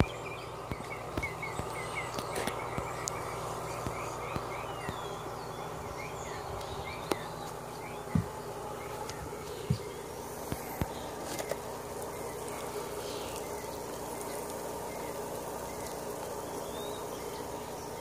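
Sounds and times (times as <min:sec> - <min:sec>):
air pump buzzing: 0:00.0 - 0:18.0.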